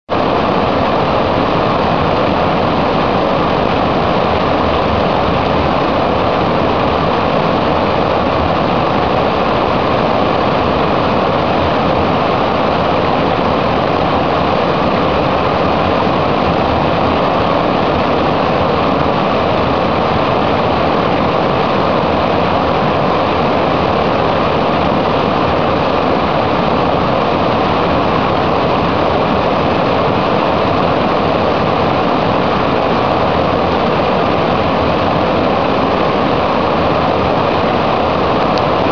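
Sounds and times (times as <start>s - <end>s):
water rushing over rocks: 0.1s - 38.9s.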